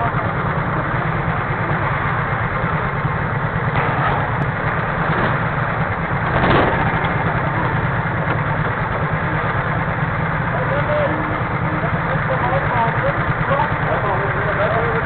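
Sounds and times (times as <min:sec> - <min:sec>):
go-kart engines idling: 0:00.0 - 0:15.0.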